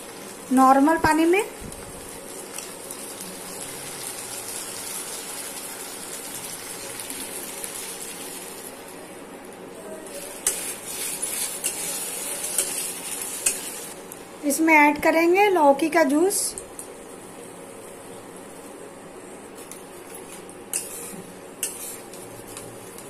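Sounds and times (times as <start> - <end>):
vegetables sizzling in a pan: 0.0 - 9.2, 10.0 - 17.5, 20.3 - 23.0.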